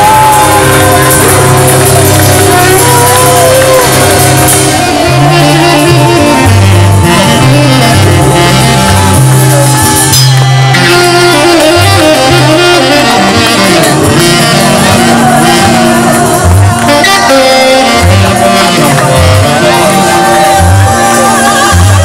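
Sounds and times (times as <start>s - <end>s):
backing music with bass line: 0.0s - 22.0s
tenor saxophone melody: 0.0s - 22.0s.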